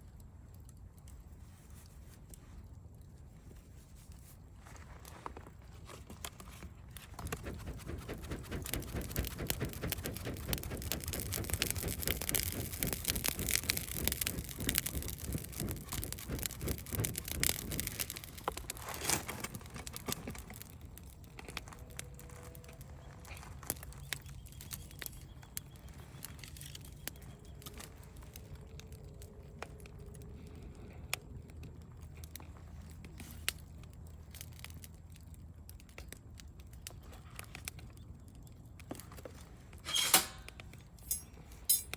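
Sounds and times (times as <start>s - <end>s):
campfire crackling: 0.0s - 41.9s.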